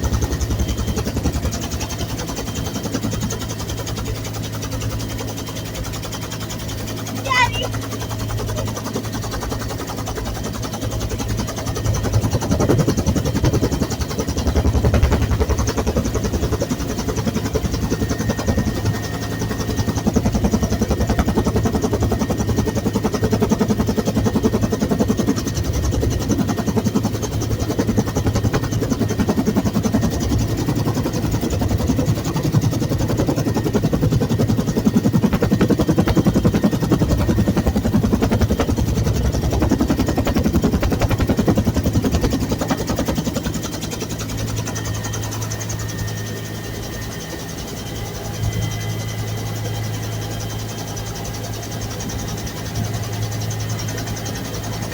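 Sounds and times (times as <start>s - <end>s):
helicopter engine noise: 0.0s - 54.9s
helicopter rotor beating: 0.0s - 54.9s.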